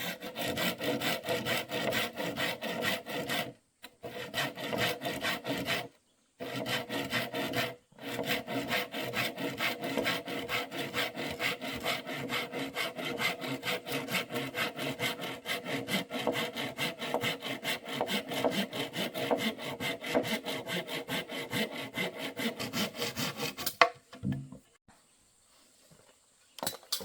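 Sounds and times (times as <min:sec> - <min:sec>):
hand saw cutting wood: 0:00.0 - 0:24.0.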